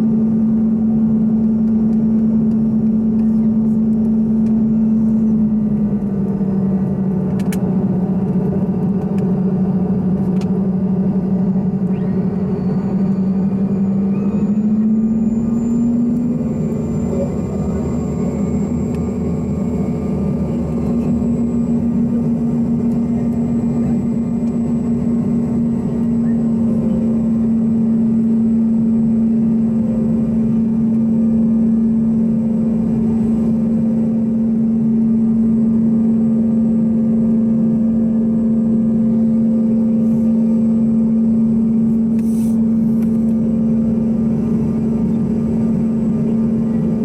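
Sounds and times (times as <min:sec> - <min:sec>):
jet cabin engine drone: 0:00.0 - 0:47.0.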